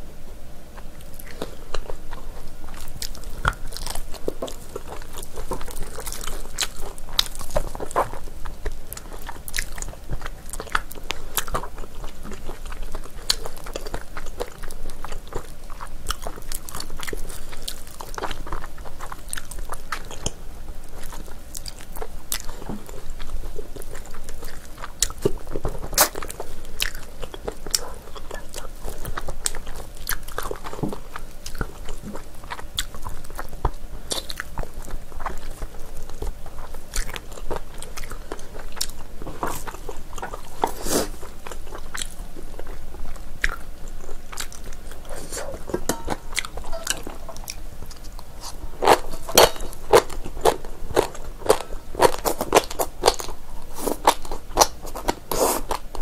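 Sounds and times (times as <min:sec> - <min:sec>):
close biting and chewing: 0:01.0 - 0:56.0.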